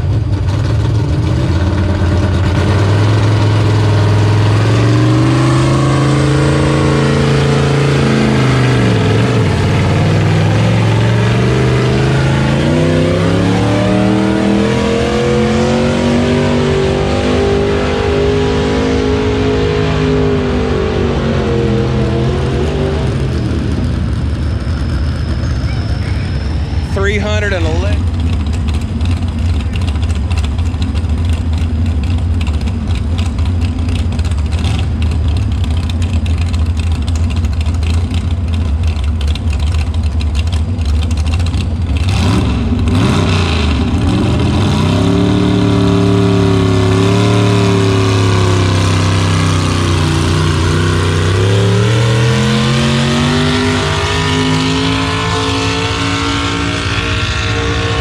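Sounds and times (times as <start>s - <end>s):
truck engine idling and revving: 0.0s - 58.0s.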